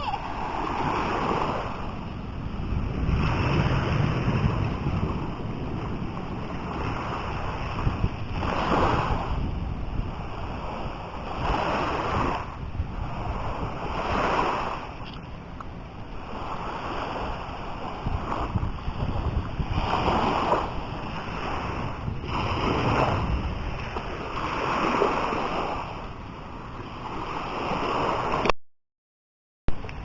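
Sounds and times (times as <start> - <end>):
sea waves washing onto beach: 0.0 - 28.5
wind rumbling on microphone: 0.0 - 28.5, 29.7 - 30.0.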